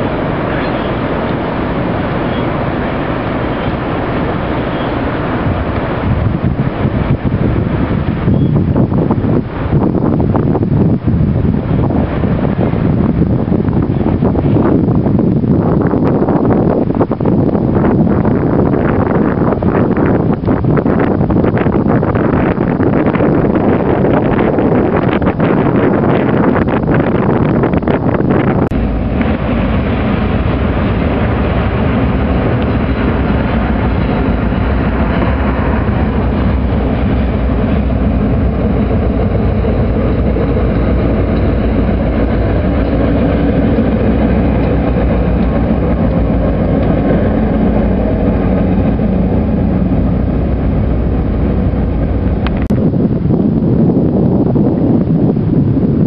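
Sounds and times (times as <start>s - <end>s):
freight train passing: 0.0s - 10.5s, 11.3s - 14.8s, 17.7s - 53.2s.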